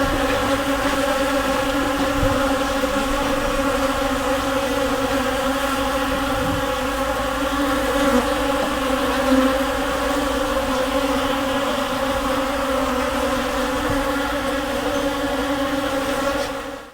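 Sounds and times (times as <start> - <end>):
swarm of bees buzzing: 0.0 - 16.9.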